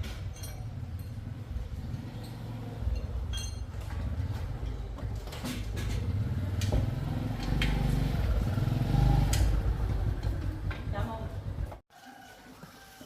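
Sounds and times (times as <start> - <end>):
small engine rumbling: 0.0 - 11.8.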